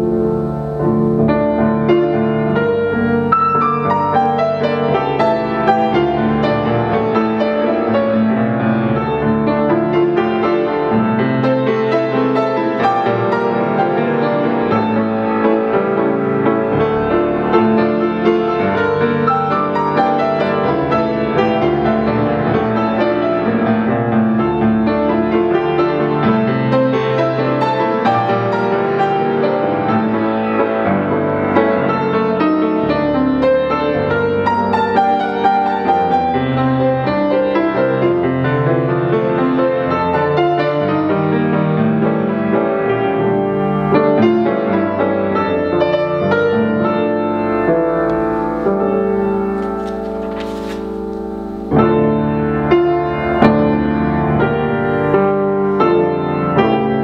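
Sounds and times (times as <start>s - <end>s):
solo piano classical piece: 0.0s - 57.0s.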